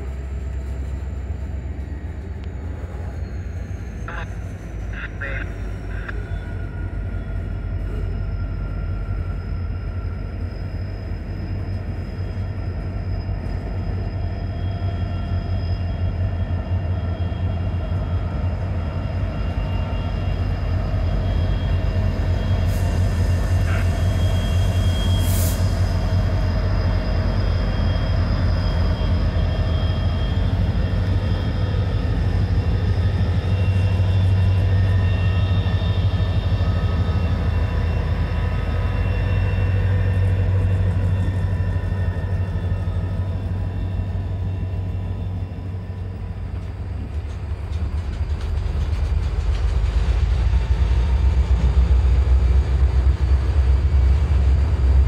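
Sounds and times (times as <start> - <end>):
diesel locomotive engine rumble: 0.0 - 55.0
freight train rolling past: 0.0 - 55.0.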